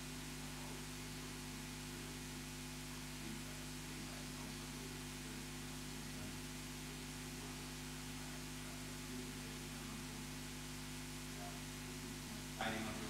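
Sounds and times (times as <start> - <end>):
electrical hum with hiss: 0.0 - 13.0.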